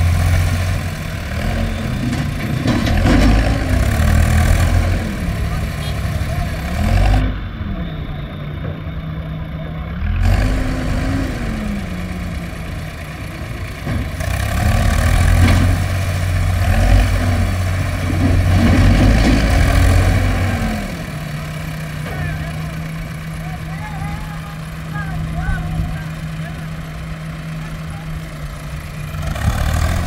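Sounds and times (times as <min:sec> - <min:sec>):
diesel engine revving under load: 0:00.0 - 0:30.0
diesel engine running steadily: 0:00.0 - 0:30.0.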